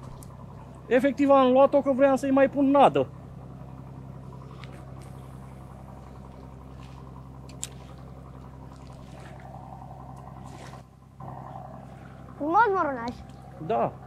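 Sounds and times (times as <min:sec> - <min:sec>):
distant boat engine drone: 0:00.0 - 0:14.0.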